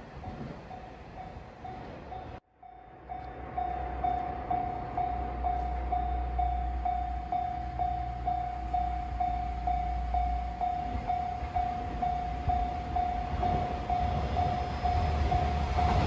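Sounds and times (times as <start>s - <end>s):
level-crossing alarm bell ringing: 0.2s - 16.0s.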